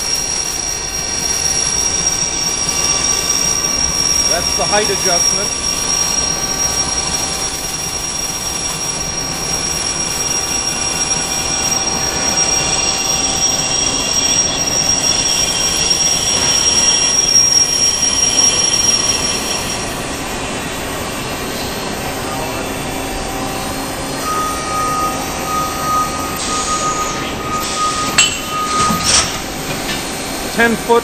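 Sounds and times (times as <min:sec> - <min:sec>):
high-pitched machine whine: 0:00.0 - 0:31.0
machinery drone: 0:00.0 - 0:31.0.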